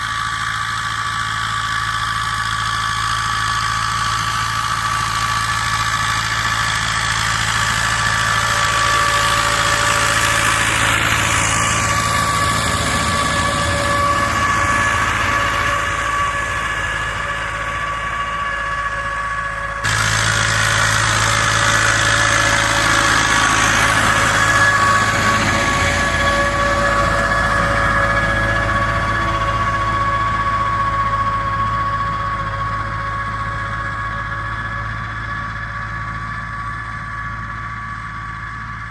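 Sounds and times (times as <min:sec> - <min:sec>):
high whine: 0:00.0 - 0:38.9
tractor diesel engine running: 0:00.0 - 0:38.9.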